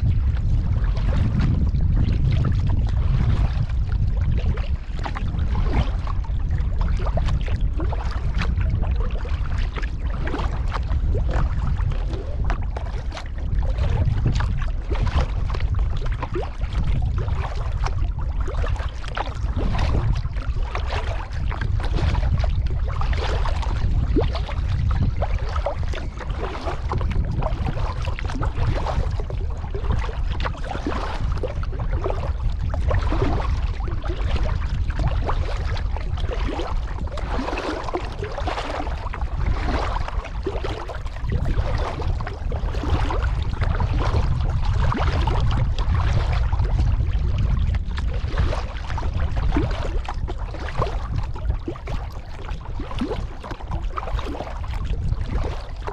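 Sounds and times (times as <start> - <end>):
steady low rumble: 0.0 - 55.9
water splashing around kayak: 0.0 - 55.9.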